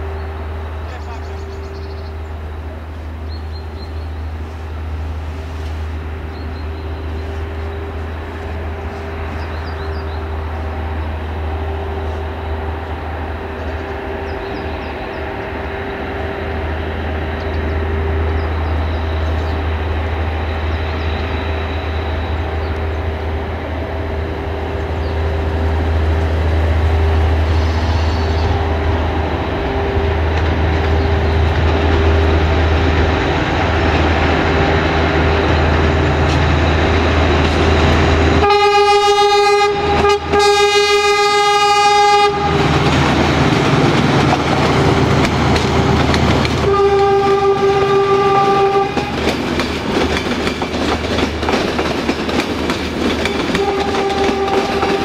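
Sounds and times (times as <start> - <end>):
locomotive engine rumble: 0.0 - 55.0.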